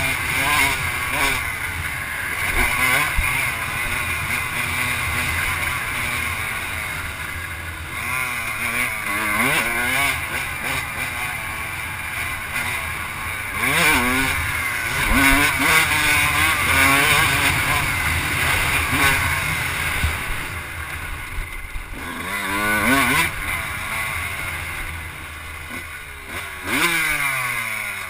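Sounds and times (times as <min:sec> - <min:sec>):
off-road engine revving: 0:00.0 - 0:28.0.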